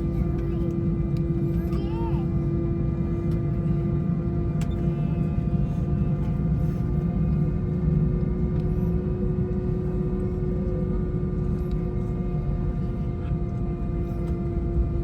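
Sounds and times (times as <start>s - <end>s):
jet engines in cabin: 0.0s - 15.0s.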